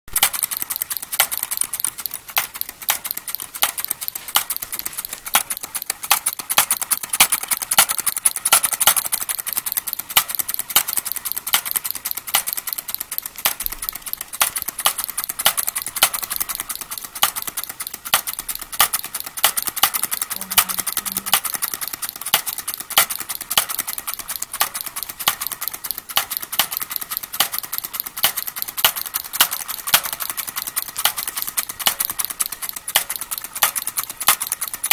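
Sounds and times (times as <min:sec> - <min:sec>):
small engine firing clicks: 0:00.1 - 0:34.9.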